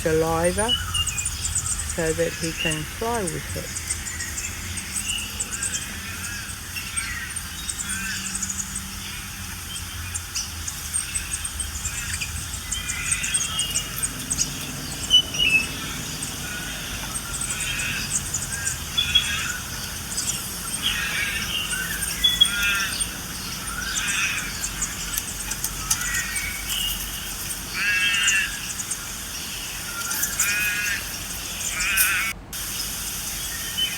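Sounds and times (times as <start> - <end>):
bird trilled calls: 0.0 - 32.4
birds chirping and calling: 0.0 - 33.9.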